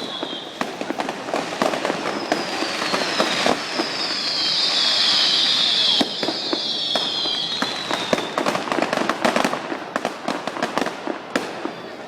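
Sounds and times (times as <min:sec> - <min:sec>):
descending firework whistle: 0:00.0 - 0:09.6, 0:11.2 - 0:12.0
fireworks pops and crackles: 0:00.0 - 0:12.0.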